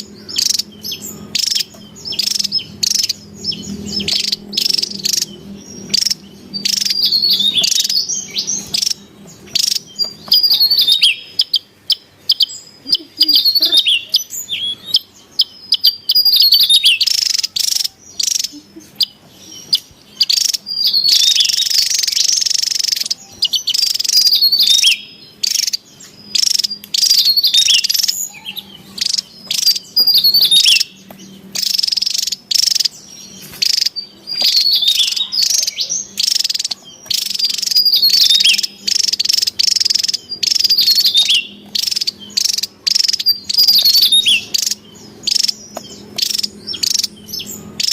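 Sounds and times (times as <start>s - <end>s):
bird singing high notes: 0.0s - 47.9s.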